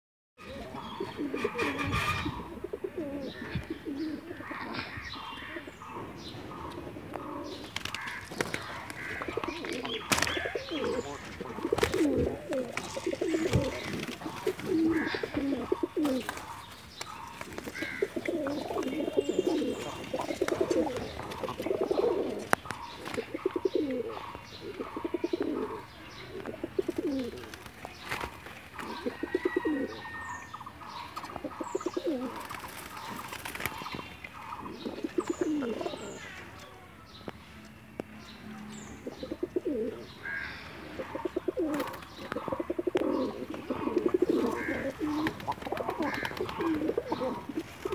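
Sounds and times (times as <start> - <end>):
pigeons cooing: 0.4 - 36.6, 38.7 - 47.9.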